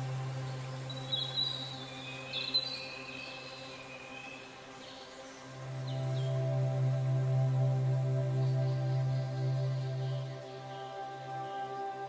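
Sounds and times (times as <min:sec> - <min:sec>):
low ambient drone: 0:00.0 - 0:12.0.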